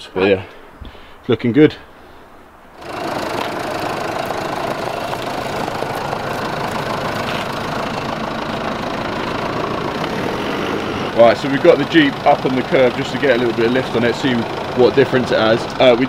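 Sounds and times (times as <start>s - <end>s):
car engine idling: 2.7s - 16.0s.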